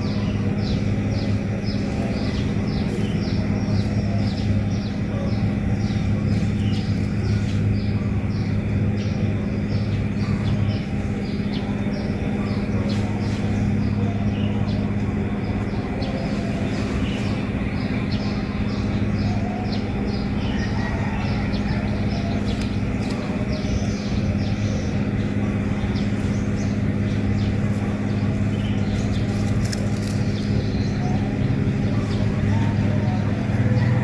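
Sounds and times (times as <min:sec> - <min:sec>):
low droning hum: 0:00.0 - 0:34.0.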